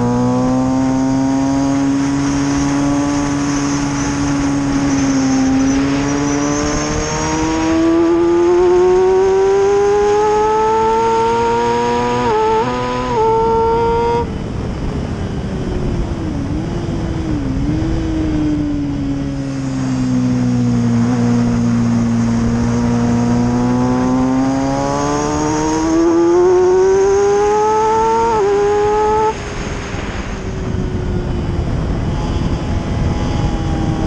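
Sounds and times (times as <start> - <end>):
motorcycle engine revving: 0.0 - 14.4, 15.0 - 34.0
wind rush: 0.8 - 34.0.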